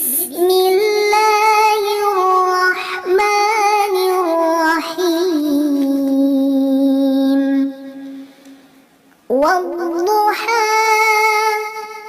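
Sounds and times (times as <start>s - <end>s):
woman chanting melodic recitation: 0.0s - 8.4s, 9.3s - 12.0s.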